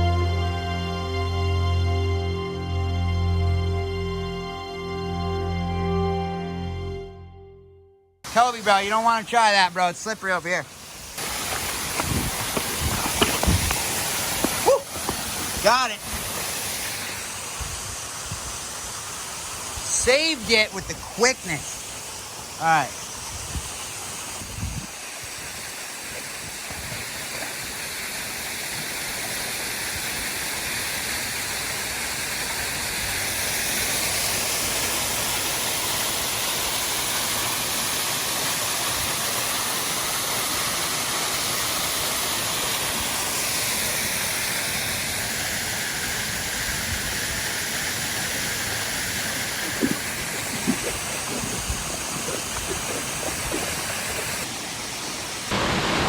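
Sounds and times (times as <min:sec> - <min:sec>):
fast-flowing stream water: 0:08.3 - 0:56.0.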